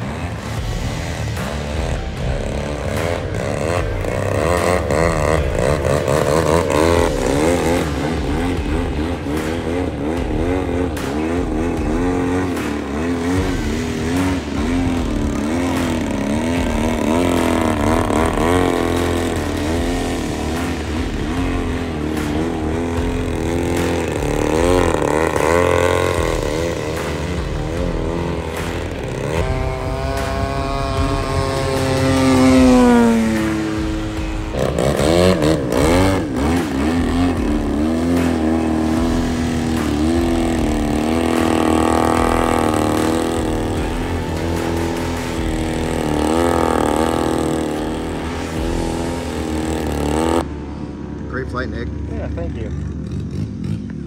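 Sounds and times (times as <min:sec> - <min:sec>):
model airplane engine: 0:00.0 - 0:54.0.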